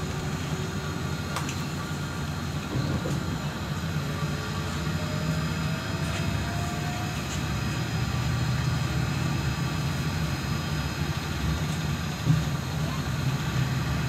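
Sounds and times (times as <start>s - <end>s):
trolleybus interior rumble: 0.0s - 14.0s.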